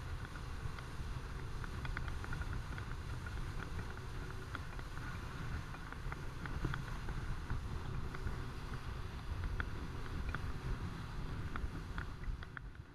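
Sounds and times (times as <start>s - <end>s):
light ticks: 0.0s - 10.8s, 11.4s - 12.8s
motorboat engine rumbling: 0.0s - 12.9s
wind on microphone: 0.0s - 12.9s.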